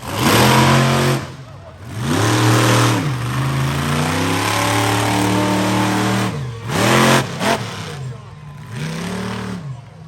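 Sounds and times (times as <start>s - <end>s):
monster truck engine revving: 0.0s - 10.0s.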